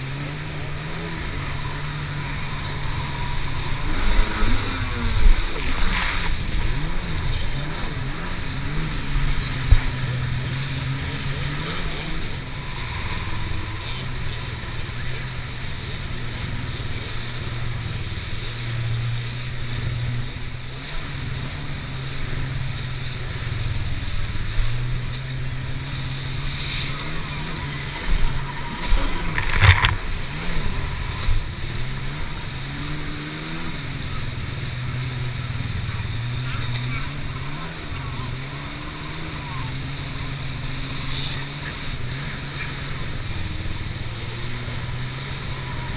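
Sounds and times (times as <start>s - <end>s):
hull slapping over wake: 0.0s - 45.9s
jet ski engine droning: 0.0s - 45.9s
water spray rushing: 0.0s - 45.9s.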